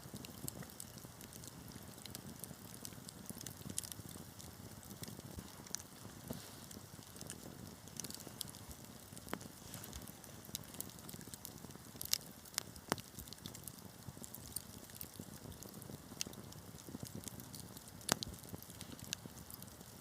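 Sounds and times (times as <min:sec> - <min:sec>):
low rumble of burning: 0:00.0 - 0:20.0
wood fire crackling: 0:00.0 - 0:20.0.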